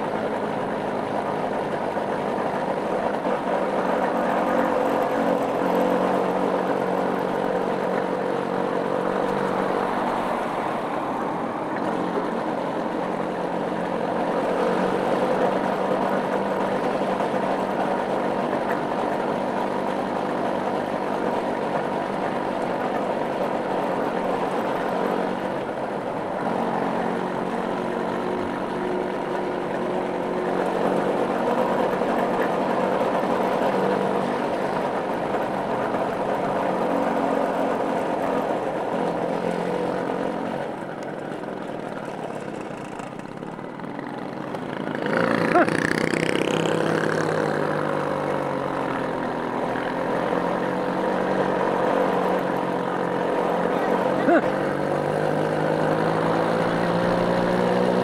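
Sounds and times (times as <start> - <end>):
small motorcycle engine: 0.0 - 58.0.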